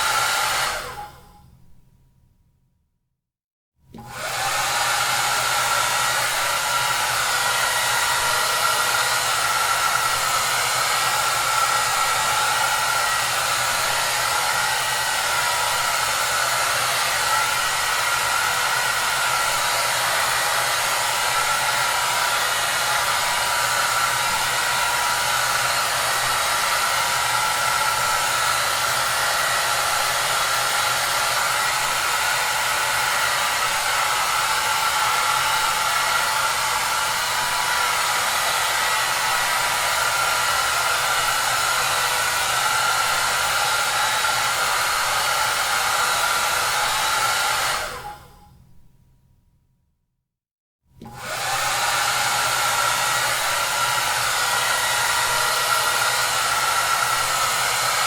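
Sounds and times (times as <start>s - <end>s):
hair dryer running: 0.0s - 1.3s, 3.9s - 48.5s, 51.0s - 58.0s.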